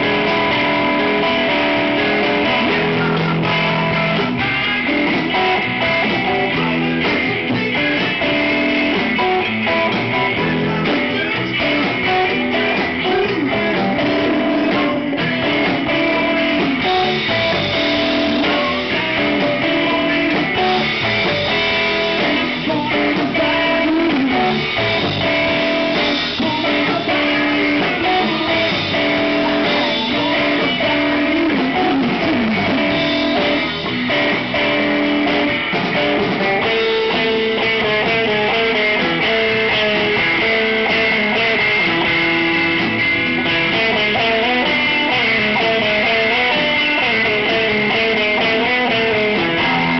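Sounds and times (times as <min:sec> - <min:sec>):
lead guitar bending notes: 0:00.0 - 0:49.9
live blues band: 0:00.0 - 0:49.9.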